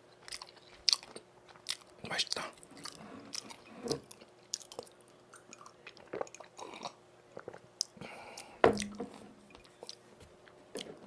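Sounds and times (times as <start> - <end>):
close-up chewing: 0.0 - 11.0.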